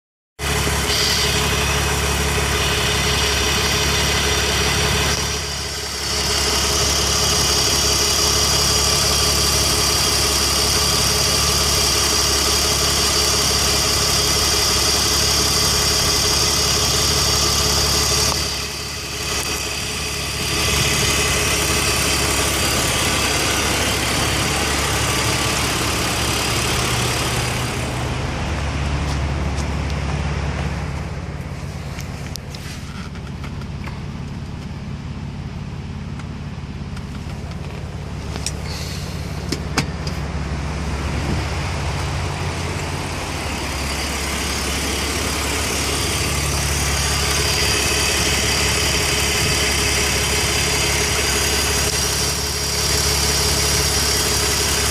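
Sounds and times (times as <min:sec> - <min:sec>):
car engine idling: 0:00.4 - 0:54.9.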